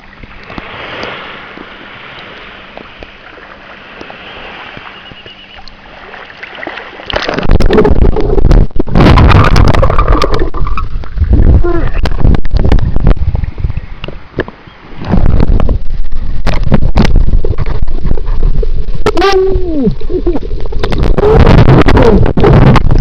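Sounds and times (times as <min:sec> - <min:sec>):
faint steady hum: 0:00.0 - 0:23.0
loud rough water splashing: 0:00.0 - 0:23.0.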